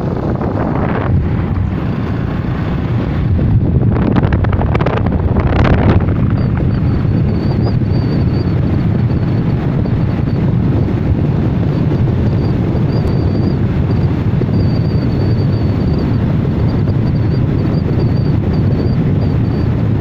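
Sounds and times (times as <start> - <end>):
vehicle rumble: 0.0 - 20.0
wind rushing over microphone: 0.0 - 20.0.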